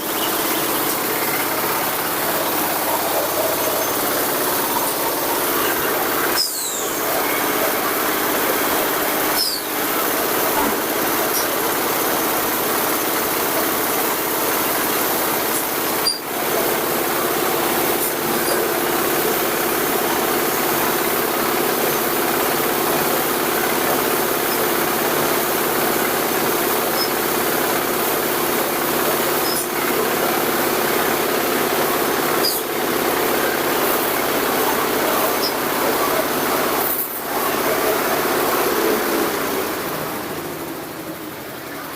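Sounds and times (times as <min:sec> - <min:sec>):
diesel engine running: 0:00.0 - 0:41.9
steady hum: 0:00.0 - 0:41.9.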